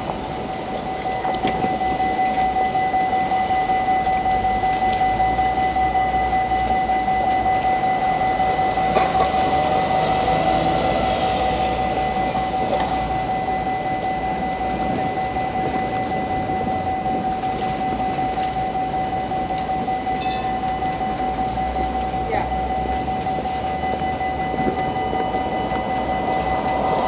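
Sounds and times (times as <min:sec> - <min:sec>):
buses running and passing: 0:00.0 - 0:27.0
steady high-pitched tone: 0:00.0 - 0:27.0.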